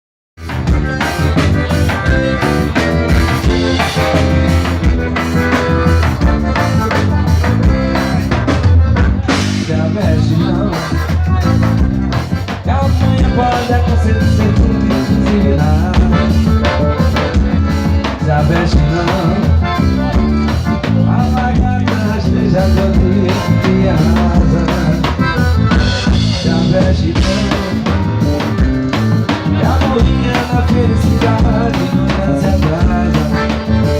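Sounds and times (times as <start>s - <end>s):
bass line: 0.4s - 33.9s
drum kit beat: 0.4s - 33.9s.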